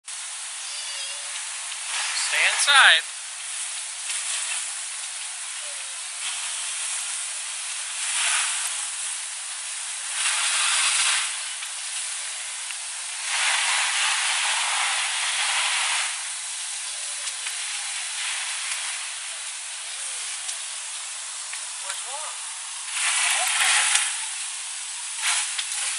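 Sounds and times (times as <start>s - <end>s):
water spraying from fire hose: 0.1s - 25.9s.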